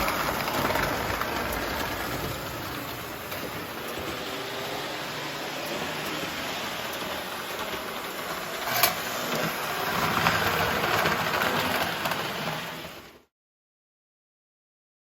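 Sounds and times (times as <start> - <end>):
toy train motor whir and wheel rumble: 0.0 - 13.3.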